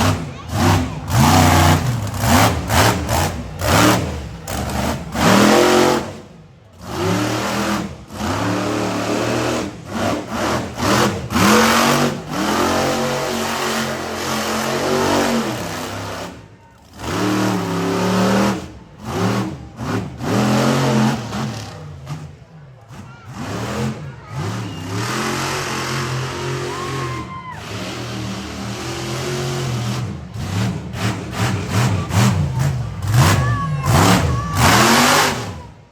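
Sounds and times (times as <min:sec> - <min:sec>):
monster truck engine revving: 0:00.0 - 0:35.9.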